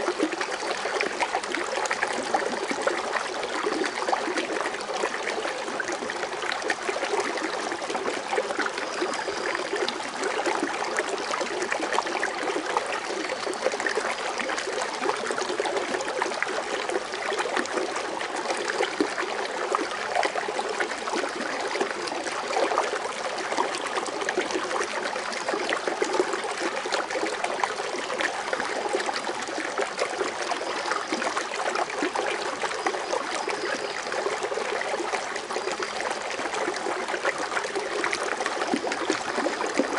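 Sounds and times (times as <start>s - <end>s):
water fountain splashing: 3.2s - 39.9s.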